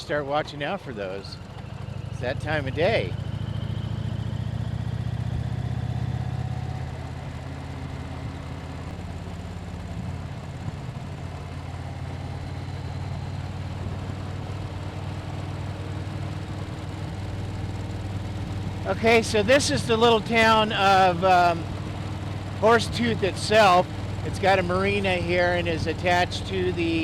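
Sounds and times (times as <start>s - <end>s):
motorcycle engine running: 0.0s - 27.0s
rush of wind while riding: 1.4s - 27.0s.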